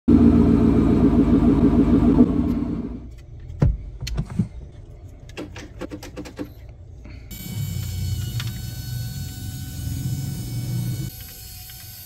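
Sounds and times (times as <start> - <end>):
car engine pulsing rumble: 0.1 - 11.1.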